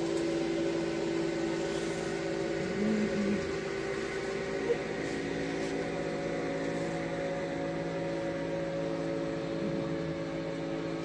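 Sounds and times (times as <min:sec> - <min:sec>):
machine drone: 0:00.0 - 0:11.0.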